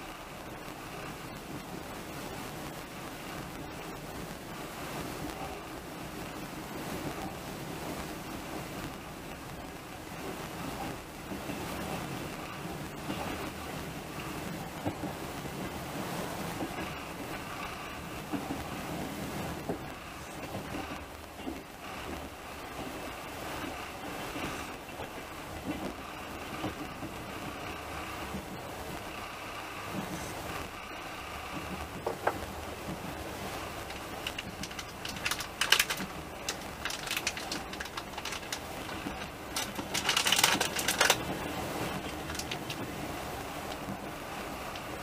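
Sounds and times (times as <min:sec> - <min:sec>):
rapid clicking and rattling: 0:00.0 - 0:45.0
train running noise: 0:00.0 - 0:45.0.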